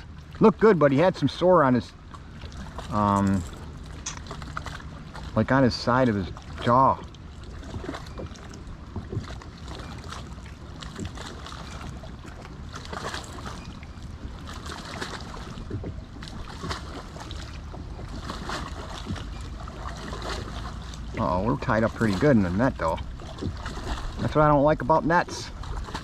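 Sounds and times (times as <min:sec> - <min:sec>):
light knocks and splashes: 0:00.0 - 0:26.0
water lapping around kayak: 0:00.0 - 0:26.0
wind rumble on microphone: 0:02.5 - 0:26.0.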